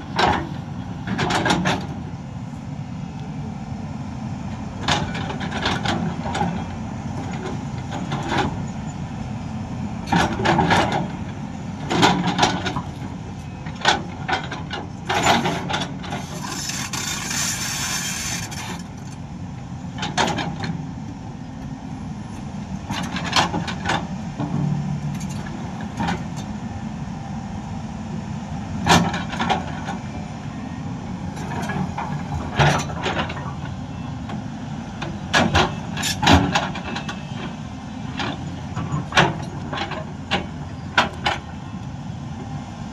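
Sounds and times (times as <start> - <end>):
diesel machinery running: 0.0 - 42.9.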